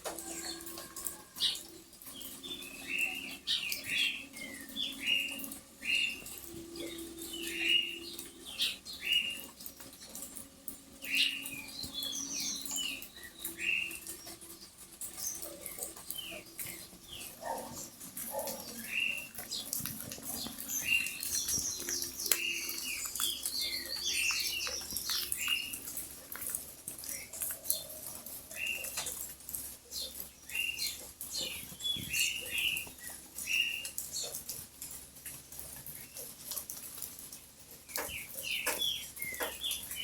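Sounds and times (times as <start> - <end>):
birds chirping: 0.2 - 40.0.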